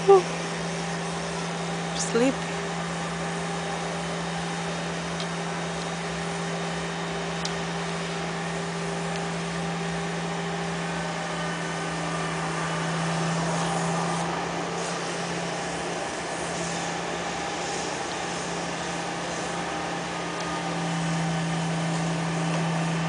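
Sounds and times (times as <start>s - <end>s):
low motor hum: 0.0s - 23.0s.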